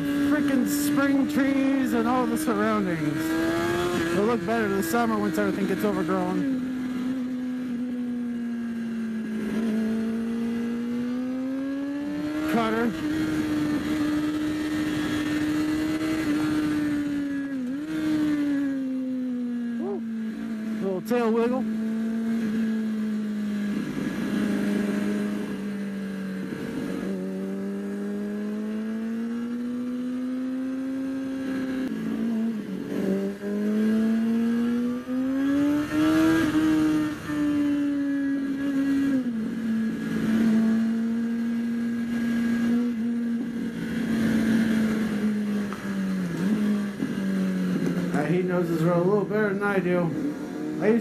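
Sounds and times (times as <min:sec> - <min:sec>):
motorcycle engine: 0:00.0 - 0:51.0.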